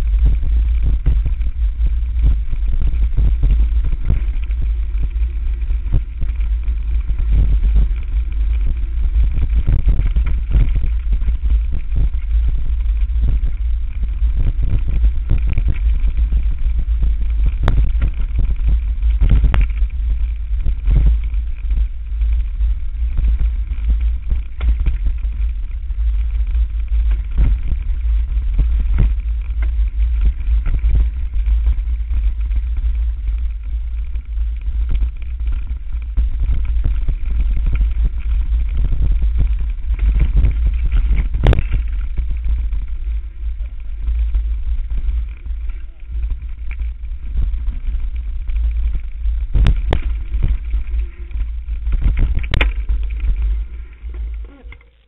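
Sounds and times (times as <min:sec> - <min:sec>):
bike knocks and rattles: 0:00.0 - 0:55.0
wind rumble on microphone: 0:00.0 - 0:55.0.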